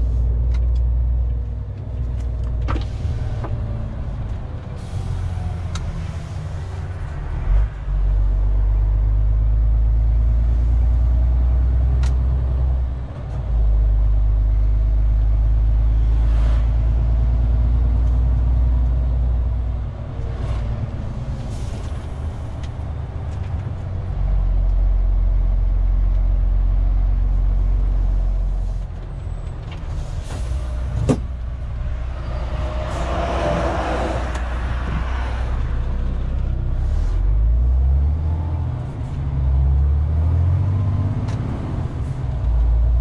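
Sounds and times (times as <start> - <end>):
truck diesel engine droning: 0.0 - 43.0.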